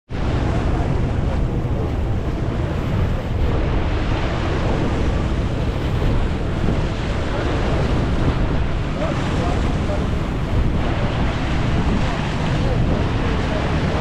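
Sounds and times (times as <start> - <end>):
rush of sea water: 0.1 - 14.0
wind buffeting microphone: 0.1 - 14.0.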